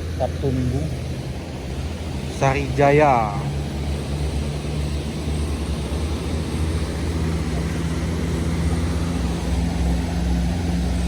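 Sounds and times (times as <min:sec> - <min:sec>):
heavy vehicle engine droning: 0:00.0 - 0:11.0.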